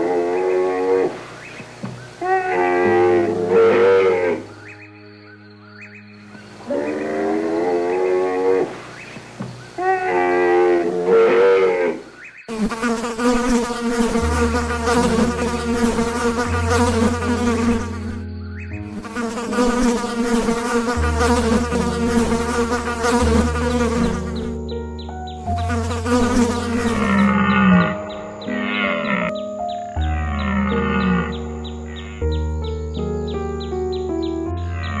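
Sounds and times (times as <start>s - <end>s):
insect buzzing: 0.0s - 24.8s, 25.4s - 32.4s, 34.2s - 35.0s.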